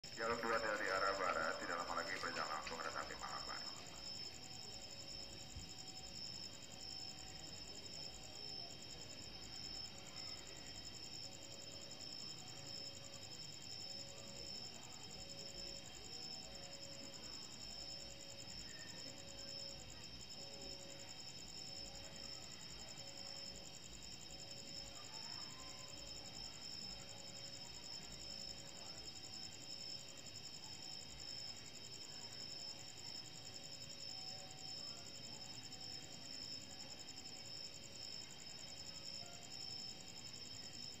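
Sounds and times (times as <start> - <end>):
night insects chirring: 0.0 - 41.0.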